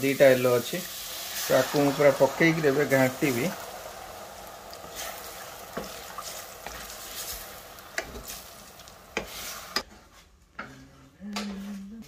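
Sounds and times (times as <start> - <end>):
eggs and vegetables sizzling in pan: 0.0 - 10.1
spatula stirring in pan: 0.2 - 11.7.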